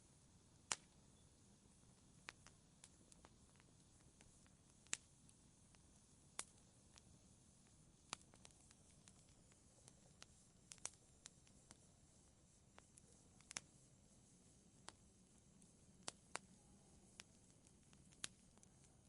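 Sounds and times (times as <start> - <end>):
soft steady hiss: 0.0 - 19.0
wood fire crackling: 0.0 - 19.0.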